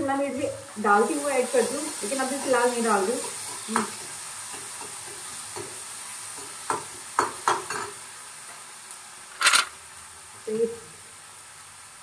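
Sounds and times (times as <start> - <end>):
onion and tomato sizzling: 0.0 - 12.0.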